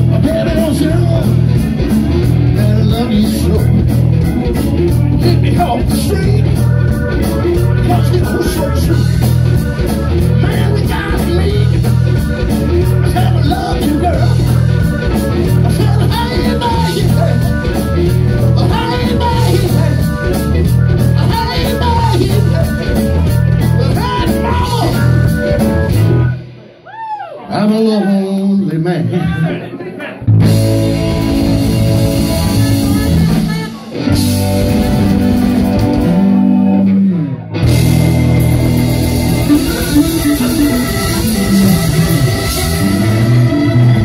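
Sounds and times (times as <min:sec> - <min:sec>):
live rock band playing: 0:00.0 - 0:29.0, 0:30.2 - 0:44.0.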